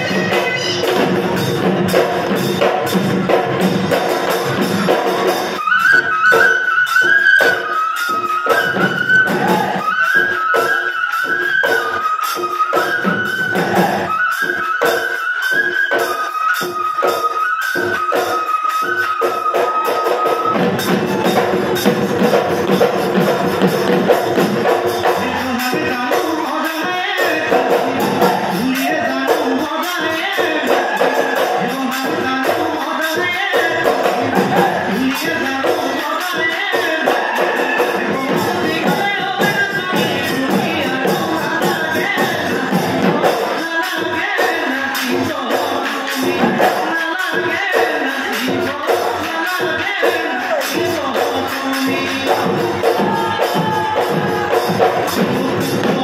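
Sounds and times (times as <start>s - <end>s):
dhol drums beating fast: 0.0s - 56.0s
person singing: 0.0s - 56.0s.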